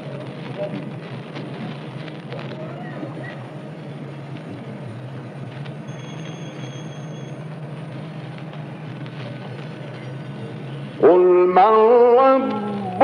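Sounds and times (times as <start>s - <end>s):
recording hiss and hum: 0.0s - 13.0s.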